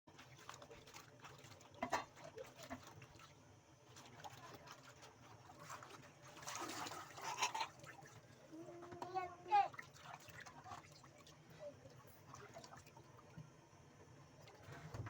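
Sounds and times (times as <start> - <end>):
water splashing and trickling: 0.1 - 15.0.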